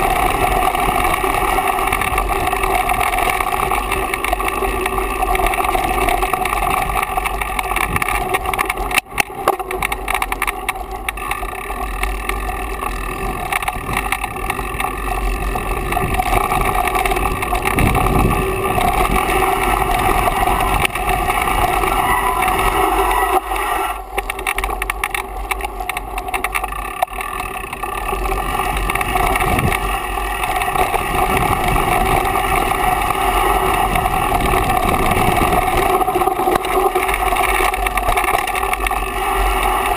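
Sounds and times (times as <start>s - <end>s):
bike tyres rolling on dirt trail: 0.0s - 39.9s
droning hum: 0.0s - 39.9s
rushing wind: 0.0s - 39.9s.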